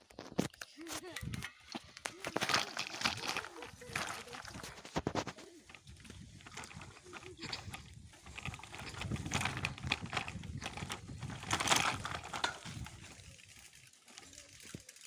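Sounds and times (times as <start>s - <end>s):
bicycle rattling over rough track: 0.0s - 15.0s.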